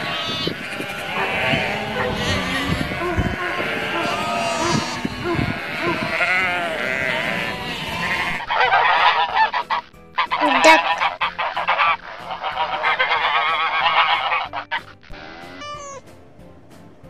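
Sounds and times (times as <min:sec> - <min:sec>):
sheep bleating: 0:00.0 - 0:09.6, 0:10.2 - 0:16.0
geese honking: 0:00.0 - 0:16.1.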